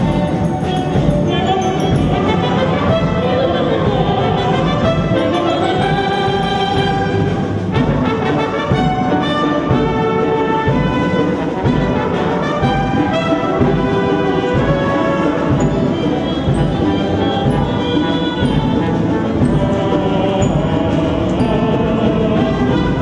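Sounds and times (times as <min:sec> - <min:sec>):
brass: 0:00.0 - 0:23.0
drum beat: 0:00.0 - 0:23.0
orchestra playing fast folk music: 0:00.0 - 0:23.0.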